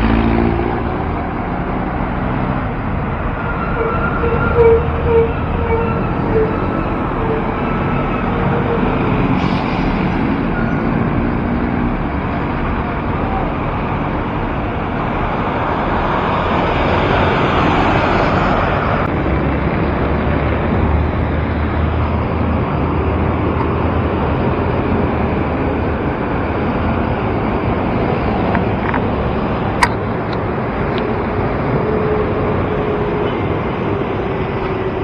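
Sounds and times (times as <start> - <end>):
road traffic noise: 0.0 - 35.0
wind rushing over microphone: 5.9 - 35.0.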